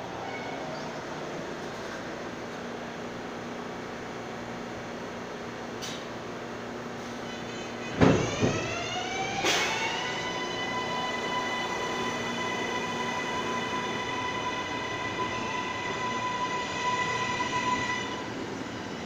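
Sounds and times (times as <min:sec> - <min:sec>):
subway train motor whine: 0:00.0 - 0:19.0
wheels rumbling on rail: 0:00.0 - 0:19.0.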